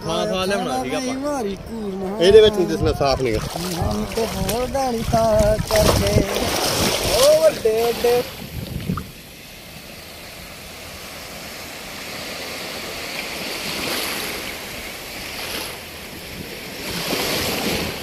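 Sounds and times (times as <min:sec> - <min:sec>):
sea surf washing in: 0:00.0 - 0:18.0.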